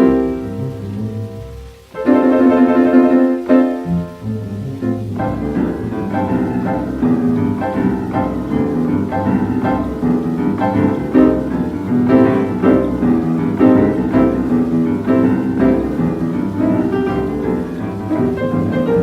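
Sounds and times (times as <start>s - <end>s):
boogie-woogie piano: 0.0s - 19.0s.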